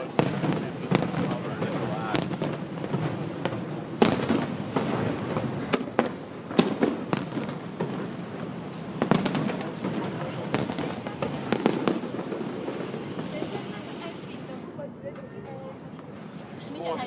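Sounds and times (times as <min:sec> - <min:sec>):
fireworks bursting: 0:00.0 - 0:16.6
steady background noise: 0:00.0 - 0:17.0.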